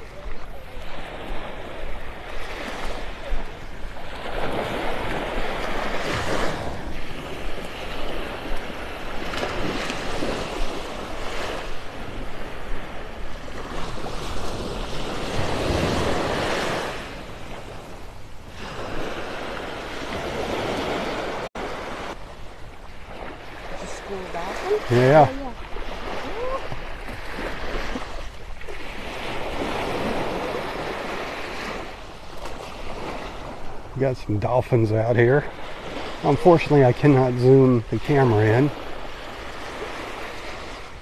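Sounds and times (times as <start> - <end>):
waves washing on sandy beach: 0.0 - 41.0
wind on microphone: 0.0 - 41.0.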